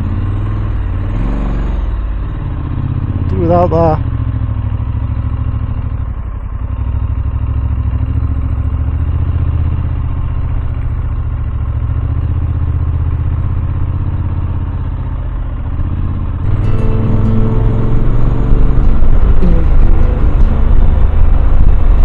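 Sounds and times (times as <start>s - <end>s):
motorcycle engine climbing: 0.0s - 22.0s.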